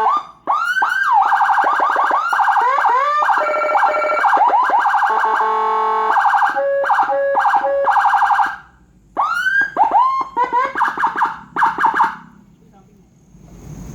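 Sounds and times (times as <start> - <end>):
siren horn tone: 0.0 - 12.3
siren yelps: 0.0 - 12.4
rising siren wail: 0.0 - 12.5.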